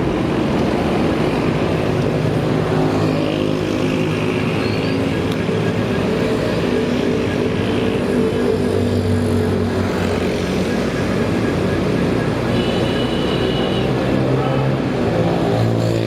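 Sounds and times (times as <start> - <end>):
traffic and road noise: 0.0 - 16.0.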